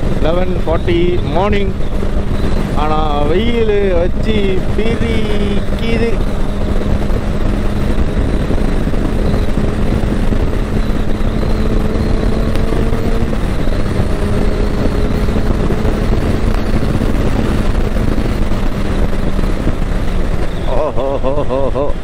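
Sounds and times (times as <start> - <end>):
motorcycle engine cruising: 0.0 - 22.0
wind buffeting microphone: 0.0 - 22.0.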